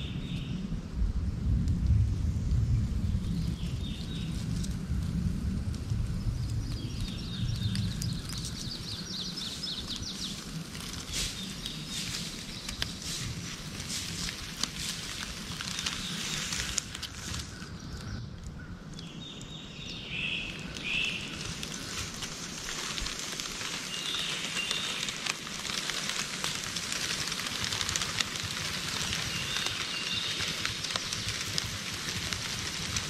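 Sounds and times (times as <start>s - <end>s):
dry leaves crackling and rustling: 1.8s - 33.0s.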